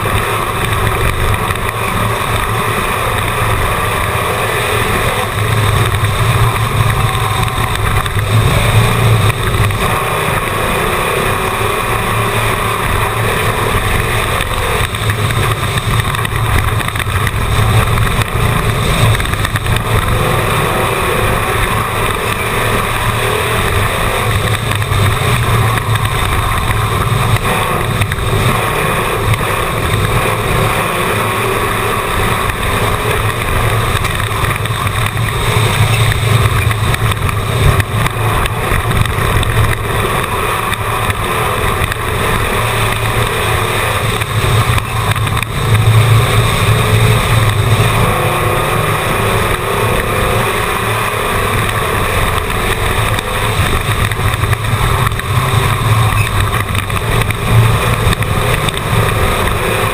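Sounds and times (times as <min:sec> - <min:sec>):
race car engine drone: 0:00.0 - 0:59.9.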